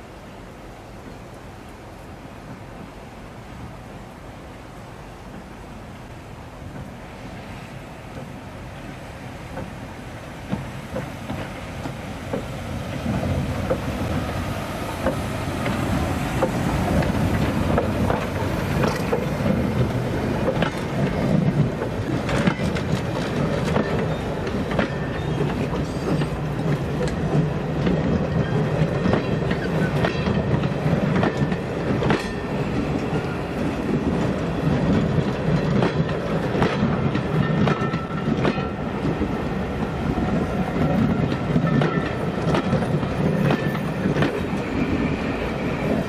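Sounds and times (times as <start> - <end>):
steam train rumble: 0.0 - 46.0
wheels clicking over rail joints: 7.6 - 46.0.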